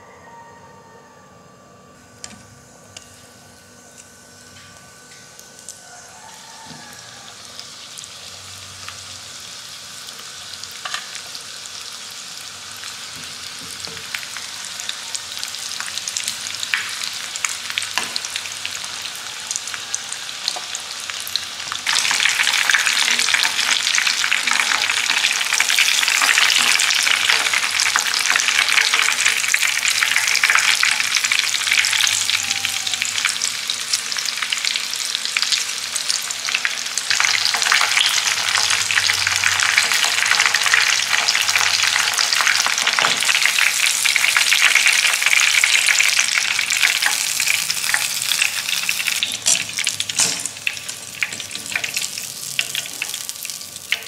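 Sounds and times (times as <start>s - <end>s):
chicken sizzling in hot oil: 5.4s - 54.0s.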